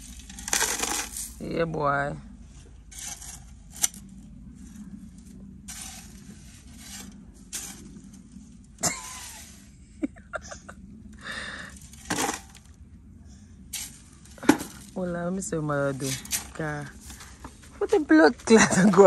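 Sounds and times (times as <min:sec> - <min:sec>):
shovel scraping gravelly dirt: 0:00.0 - 0:09.8, 0:11.4 - 0:12.8, 0:13.7 - 0:19.0.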